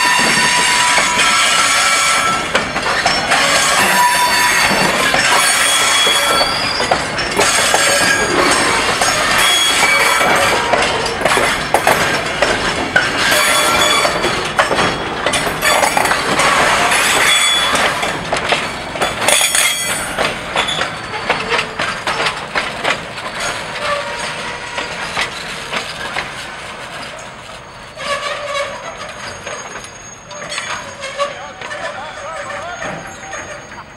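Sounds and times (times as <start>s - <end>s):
railcar wheels clanking: 0.0s - 33.9s
wheels squealing: 0.0s - 33.9s.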